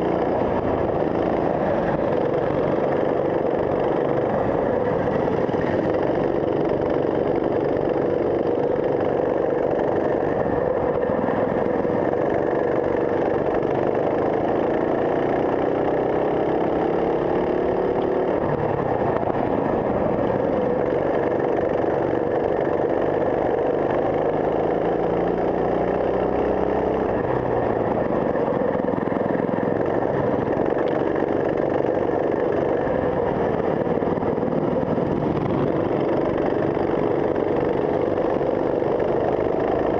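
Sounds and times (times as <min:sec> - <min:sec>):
kart engine accelerating: 0:00.0 - 0:39.9.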